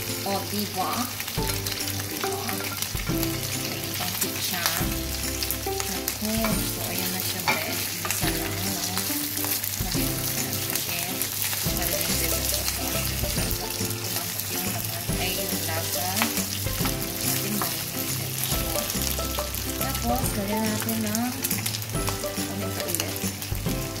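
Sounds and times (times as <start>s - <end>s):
background music: 0.0s - 24.0s
pork sizzling in a frying pan: 0.0s - 24.0s.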